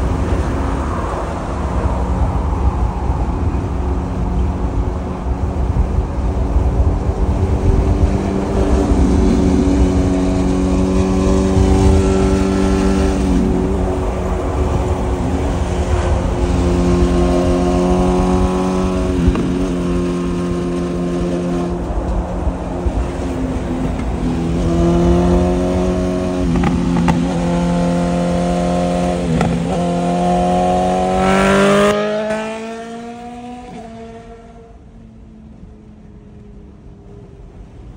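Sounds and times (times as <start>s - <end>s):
low road and wind rumble: 0.0s - 37.9s
motorcycle engine cruising: 3.0s - 37.9s.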